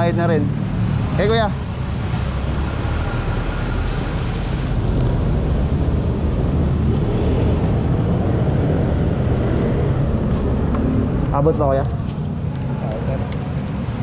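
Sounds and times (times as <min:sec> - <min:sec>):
vehicle rumble with hiss: 0:00.0 - 0:14.0.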